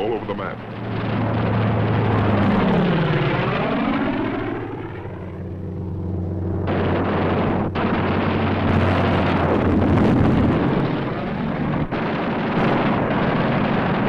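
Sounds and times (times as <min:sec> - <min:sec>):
explosion roar: 0:00.0 - 0:14.0
fighter plane flying past: 0:00.0 - 0:14.0
steady low hum: 0:00.0 - 0:14.0.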